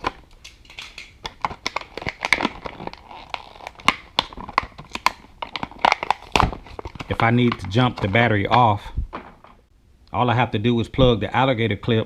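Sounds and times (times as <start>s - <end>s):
plastic parts crinkling: 0.0s - 9.7s.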